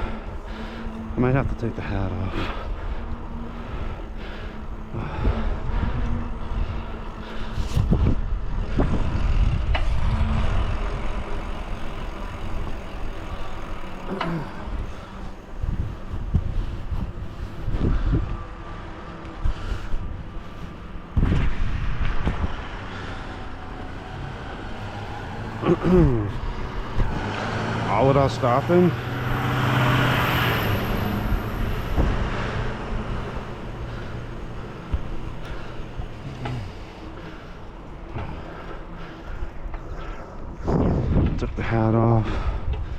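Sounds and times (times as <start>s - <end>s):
wind buffeting microphone: 0.0s - 13.9s, 14.6s - 28.4s, 29.0s - 42.9s
vehicle passing: 0.0s - 41.6s
bicycle road noise: 0.0s - 42.9s.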